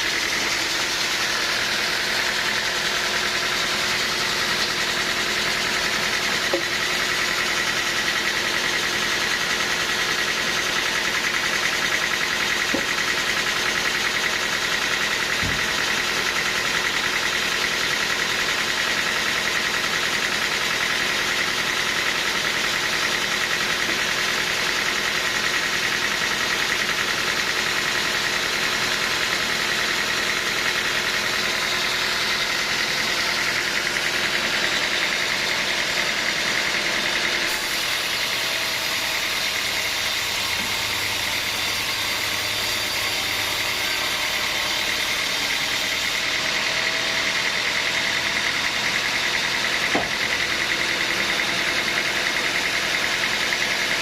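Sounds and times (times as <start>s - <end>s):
sawmill machinery din: 0.0s - 54.0s.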